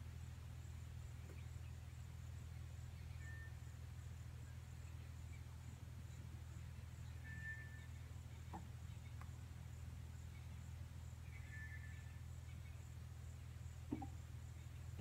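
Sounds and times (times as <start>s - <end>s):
low steady hum: 0.0s - 15.0s
pulsing high insect chirp: 0.0s - 15.0s.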